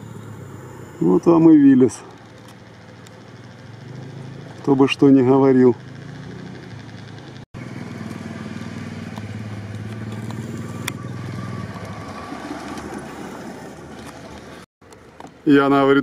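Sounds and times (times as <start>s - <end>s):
jeep engine running: 0.0s - 16.0s.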